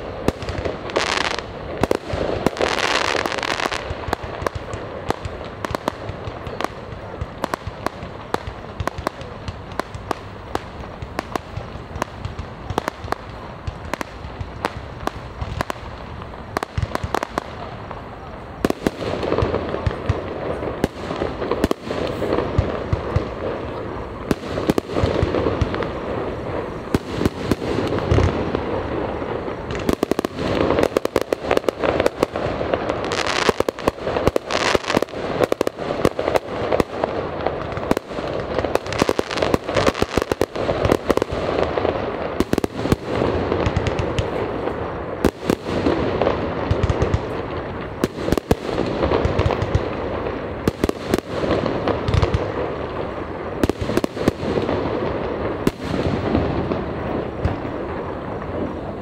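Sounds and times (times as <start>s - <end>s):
continuous rumbling noise: 0.0s - 59.0s
fireworks bangs: 0.0s - 59.0s
fireworks crackling pops: 0.0s - 59.0s.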